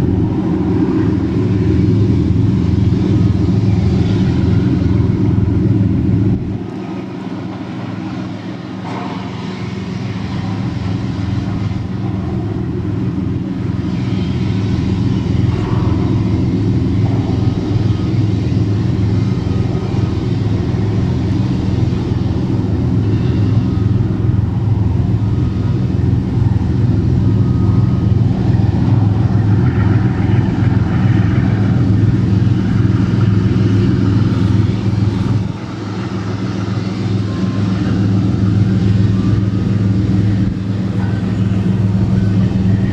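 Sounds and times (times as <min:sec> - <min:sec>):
boat engines droning: 0:00.0 - 0:42.9.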